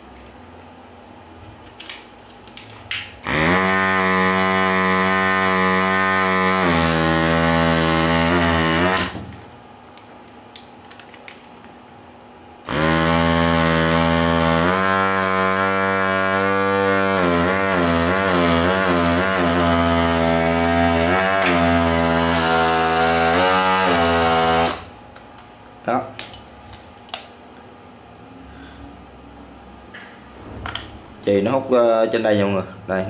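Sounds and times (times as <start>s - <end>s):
vacuum pump humming: 0.0s - 27.6s.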